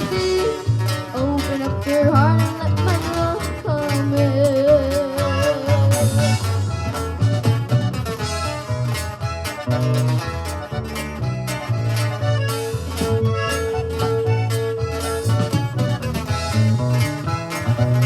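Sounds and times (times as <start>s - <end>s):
band playing latin-style music: 0.0s - 18.0s
pulsing bass line: 0.0s - 18.0s.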